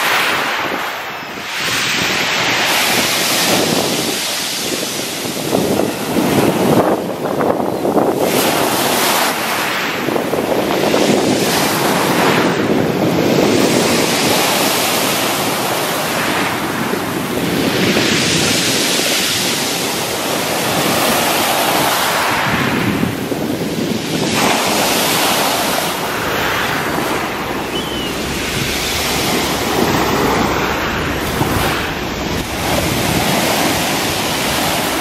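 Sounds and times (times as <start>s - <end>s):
waves crashing on pebble beach: 0.0s - 35.0s.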